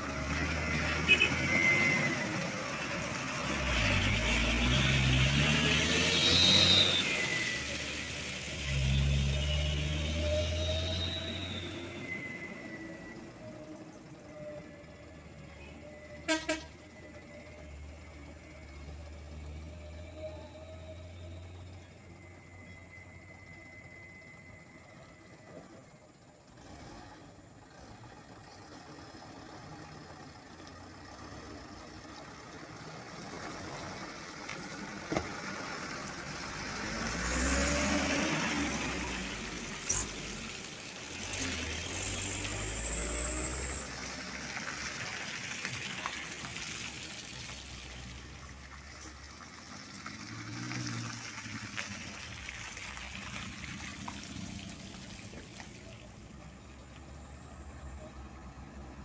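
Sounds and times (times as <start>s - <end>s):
heavy trucks passing: 0.0s - 59.0s.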